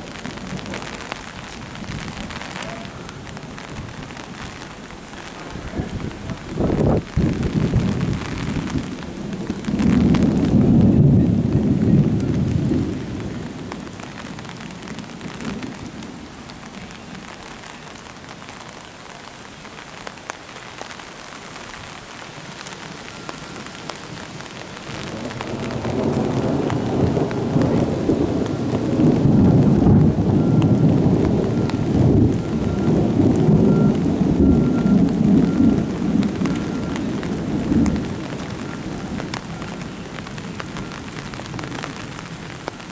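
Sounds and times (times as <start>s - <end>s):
thunder rolling: 0.0s - 16.2s, 22.8s - 42.9s
steady rain: 0.0s - 42.9s.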